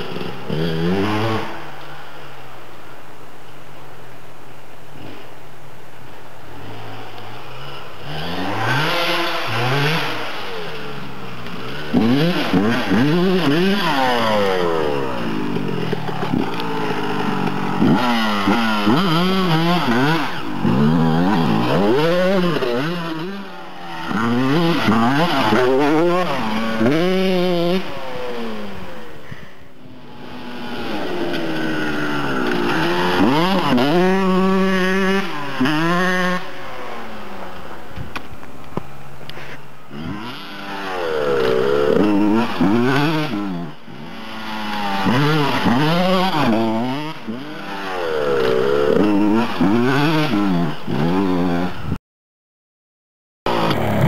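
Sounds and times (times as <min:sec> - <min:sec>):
motocross bike engine revving: 0:00.0 - 0:02.4, 0:06.3 - 0:38.0, 0:39.3 - 0:52.0, 0:53.5 - 0:54.0.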